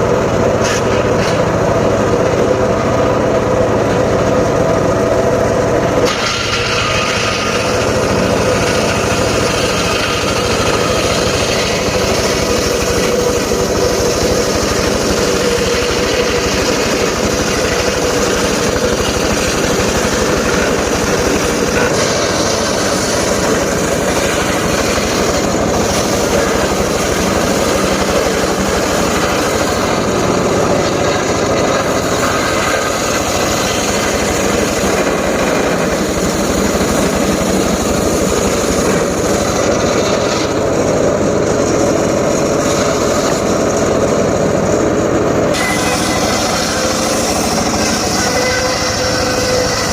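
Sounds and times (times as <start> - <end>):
engine-driven circular saw running: 0.0 - 49.9.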